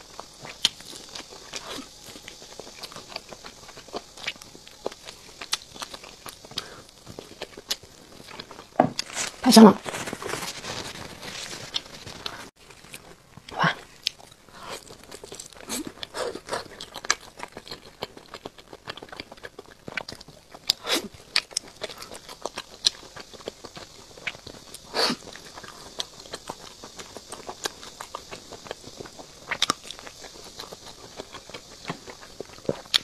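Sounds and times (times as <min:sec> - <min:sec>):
chewing crispy chicken: 0:00.0 - 0:33.0.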